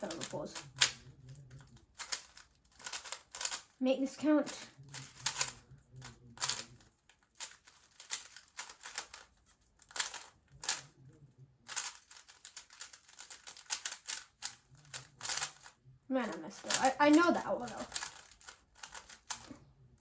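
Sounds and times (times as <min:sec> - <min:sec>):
puzzle cube clacking: 0:00.0 - 0:03.8, 0:04.4 - 0:11.0, 0:11.7 - 0:19.6.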